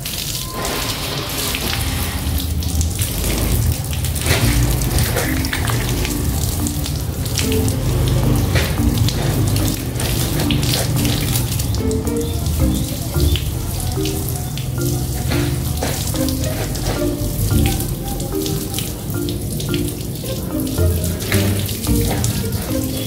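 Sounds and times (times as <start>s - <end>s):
hose water splashing: 0.0s - 23.0s
water dripping: 0.0s - 23.0s
background music: 4.3s - 23.0s.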